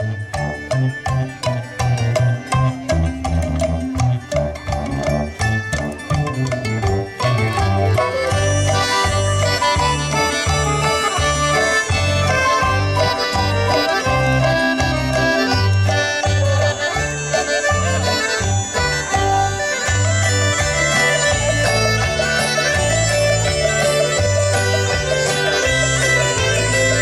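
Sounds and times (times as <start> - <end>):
instrumental folk music: 0.0 - 27.0.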